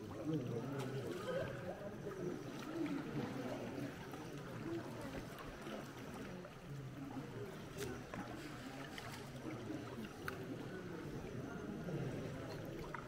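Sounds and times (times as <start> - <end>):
paddles splashing in water: 0.0 - 13.0
people talking: 0.0 - 13.0.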